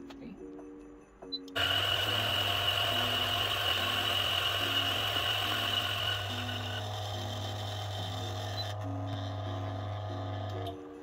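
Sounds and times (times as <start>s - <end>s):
coffee grinder grinding beans: 1.6s - 11.0s.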